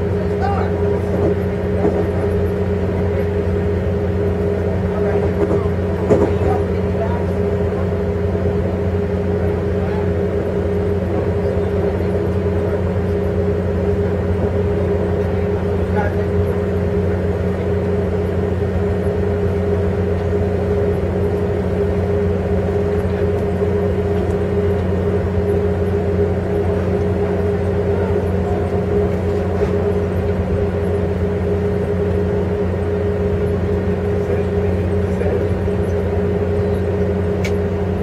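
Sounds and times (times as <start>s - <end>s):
freight train passing: 0.0s - 38.0s
train car rumble and hum: 0.0s - 38.0s.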